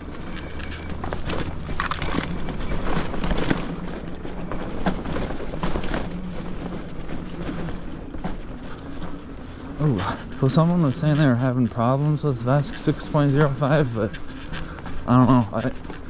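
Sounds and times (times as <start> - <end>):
bike tyres crackling over leaves: 0.0 - 16.0.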